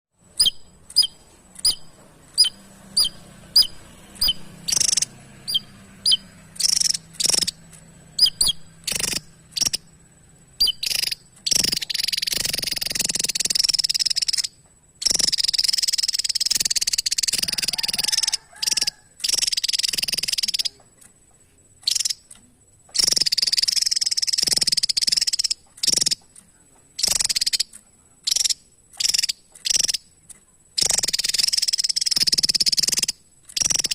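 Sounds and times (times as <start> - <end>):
bird fast trills: 0.3 - 20.8, 21.8 - 22.3, 23.0 - 26.2, 27.0 - 30.2, 30.8 - 33.9.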